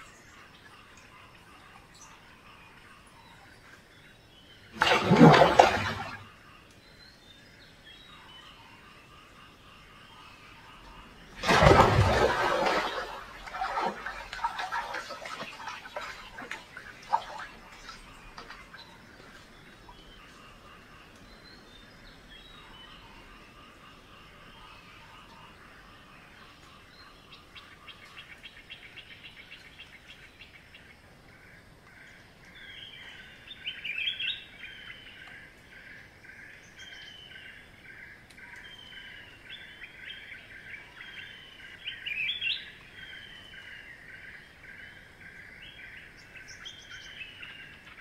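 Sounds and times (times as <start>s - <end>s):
pulsing bird chorus: 0.0s - 48.0s.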